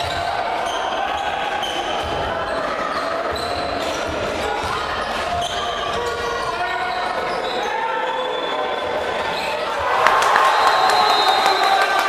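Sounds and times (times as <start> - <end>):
sneakers squeaking: 0.0 - 9.8.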